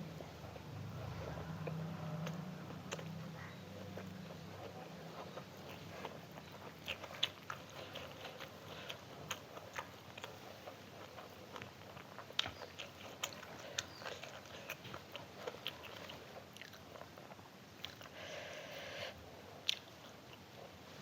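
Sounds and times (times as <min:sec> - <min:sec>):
chewing and biting: 0:00.4 - 0:18.2, 0:19.6 - 0:20.8.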